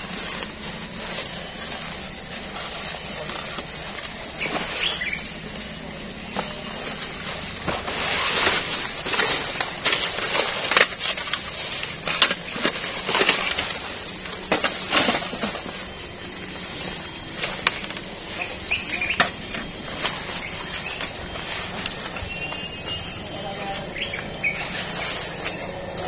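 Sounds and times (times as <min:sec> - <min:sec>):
faint high-pitched drone: 0:00.0 - 0:26.0.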